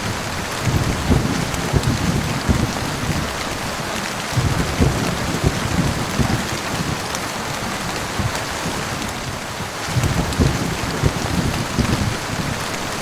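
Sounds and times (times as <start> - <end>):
heavy rain falling: 0.0 - 13.0
low rumbling thunder: 0.0 - 13.0.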